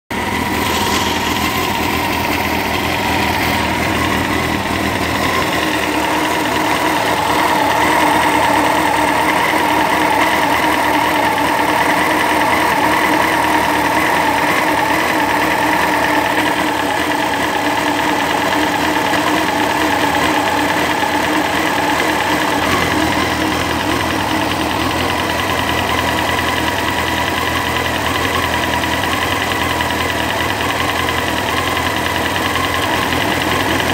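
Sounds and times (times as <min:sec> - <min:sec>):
motorcycle engine running: 0:00.0 - 0:33.9
weird engine noise: 0:00.1 - 0:33.9.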